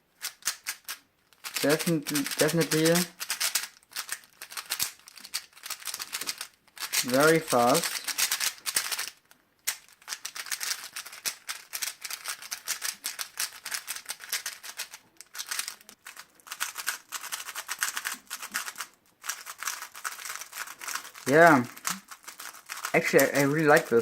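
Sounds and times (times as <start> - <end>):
speed cube clicking turns: 0.2 - 24.0.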